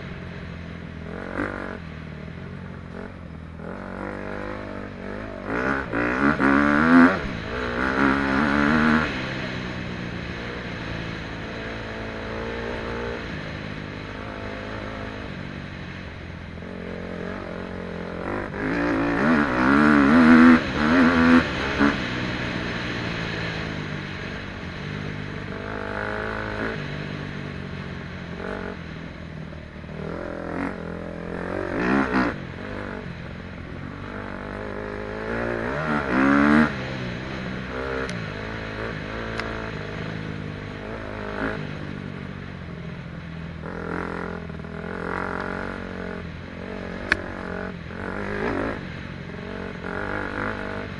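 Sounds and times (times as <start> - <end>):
dirt bike engine revving: 1.1 - 2.0, 2.9 - 16.0, 16.6 - 27.5, 28.3 - 29.0, 29.8 - 33.2, 33.8 - 41.9, 43.6 - 50.9.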